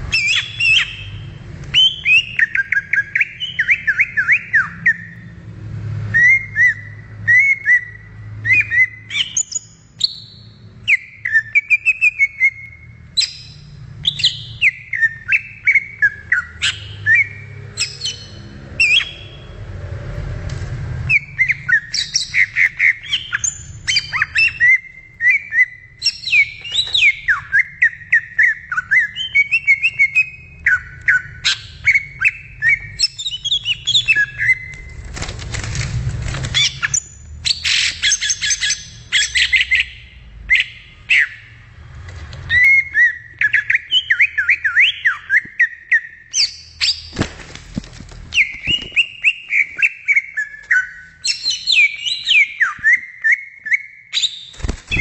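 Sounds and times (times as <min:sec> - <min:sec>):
bird singing chirps and whistles: 0:00.0 - 0:05.4, 0:06.1 - 0:19.6, 0:21.1 - 0:34.8, 0:36.6 - 0:41.6, 0:42.5 - 0:47.2, 0:48.3 - 0:55.0.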